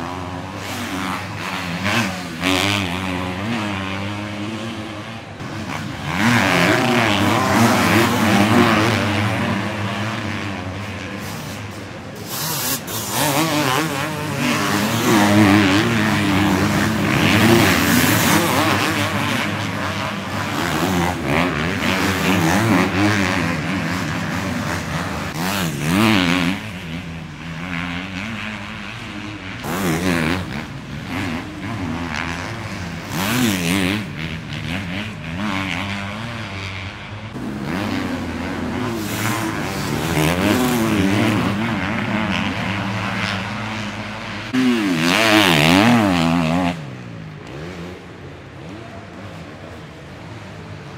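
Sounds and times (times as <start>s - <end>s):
motocross bike engines revving: 0.0s - 50.9s.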